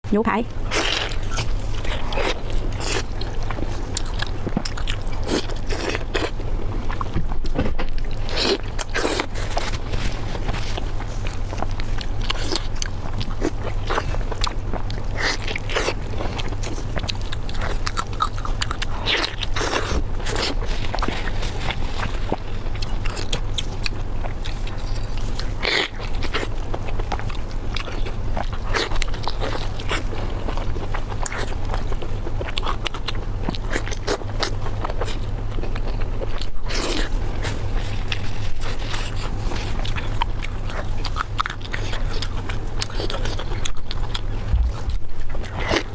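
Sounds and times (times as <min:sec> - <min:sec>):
steady low hum: 0:00.0 - 0:45.9
wet chewing and crunching: 0:00.2 - 0:45.9.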